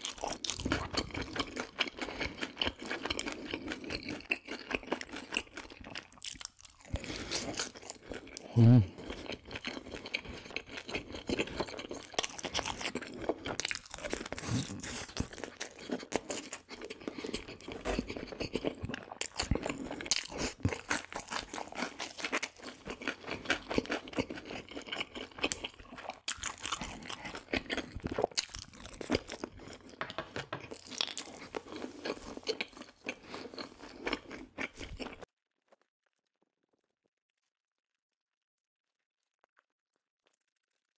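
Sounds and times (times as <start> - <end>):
crunching crispy fried food: 0.0 - 40.9.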